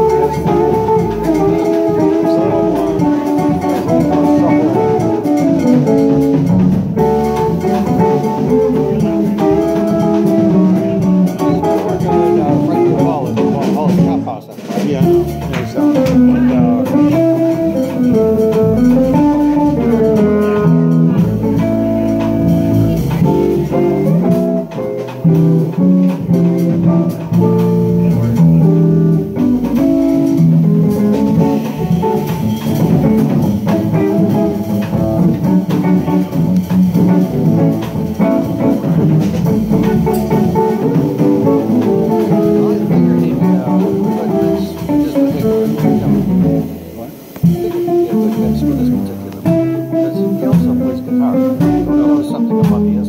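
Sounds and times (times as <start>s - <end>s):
bass: 0.0s - 53.0s
drum kit: 0.0s - 53.0s
electric guitar melody: 0.0s - 53.0s.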